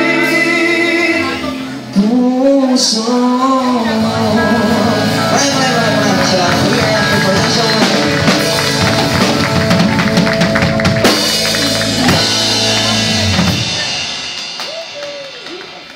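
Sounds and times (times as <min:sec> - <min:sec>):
live rock band playing: 0:00.0 - 0:15.9.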